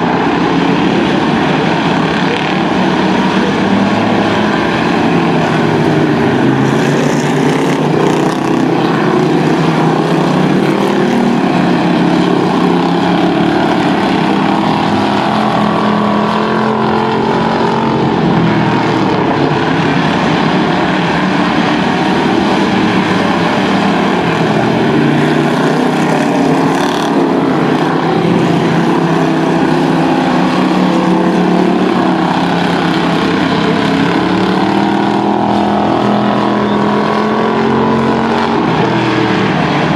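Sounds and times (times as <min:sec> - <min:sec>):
race car engines: 0:00.0 - 0:39.9.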